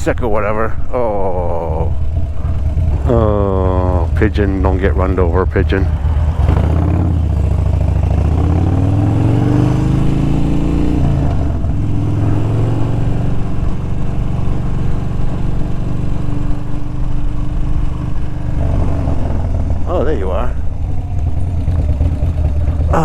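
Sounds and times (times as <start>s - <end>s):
motorcycle engine accelerating: 0.8s - 23.0s.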